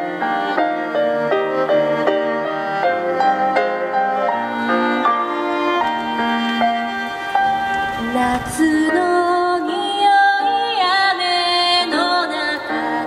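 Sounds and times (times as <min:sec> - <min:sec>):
digital piano accompaniment: 0:00.0 - 0:13.0
violin melody: 0:00.0 - 0:13.0.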